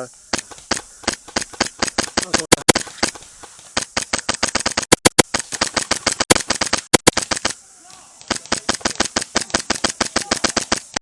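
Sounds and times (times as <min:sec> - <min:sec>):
airsoft guns firing: 0:00.3 - 0:11.0.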